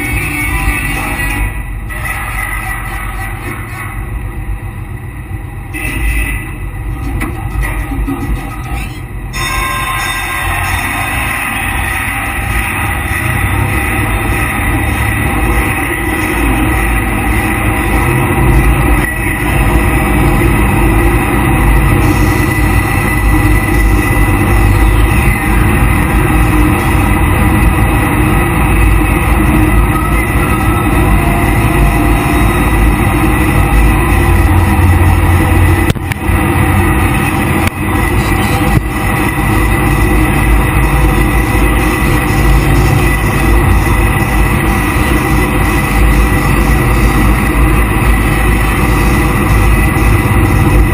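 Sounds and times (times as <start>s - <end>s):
jet boat engine rushing: 9.9s - 50.9s.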